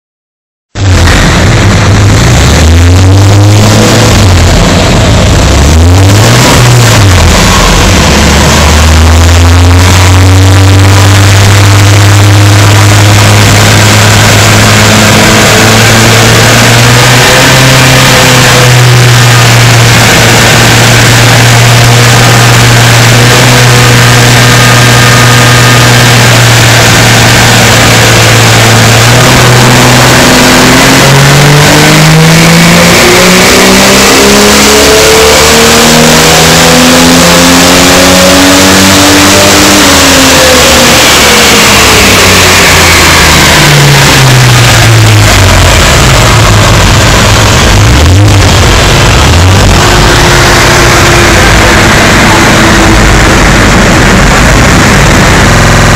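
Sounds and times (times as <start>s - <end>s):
loud engine on a dyno: 0.7s - 55.9s.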